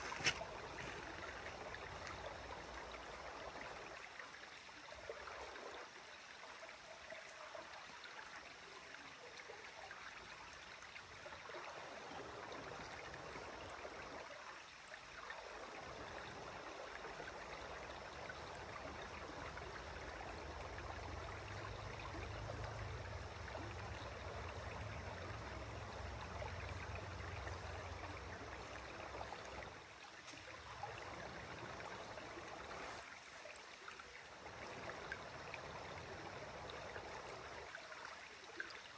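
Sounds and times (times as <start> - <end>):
creek flowing over stones: 0.0 - 38.9.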